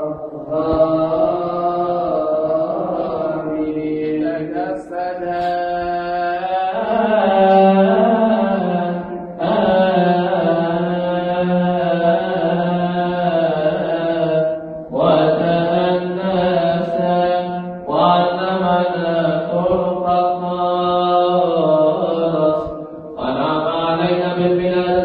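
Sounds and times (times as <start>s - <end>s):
man chanting: 0.0s - 25.0s.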